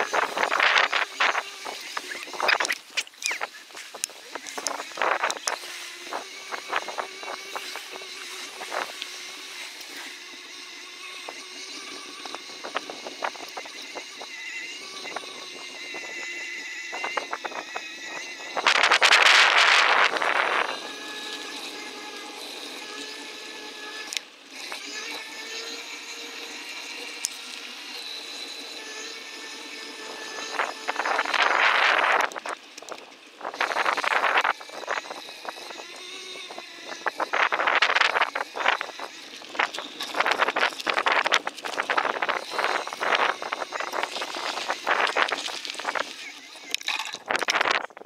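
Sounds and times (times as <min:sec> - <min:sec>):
bicycle rattling on a trail: 0:00.0 - 0:16.4, 0:17.2 - 0:48.0.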